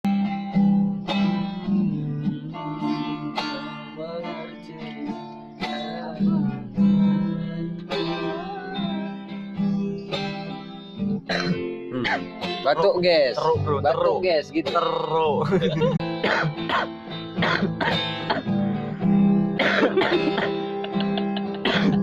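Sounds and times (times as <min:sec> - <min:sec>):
slow guitar chords ringing: 0:00.1 - 0:22.0.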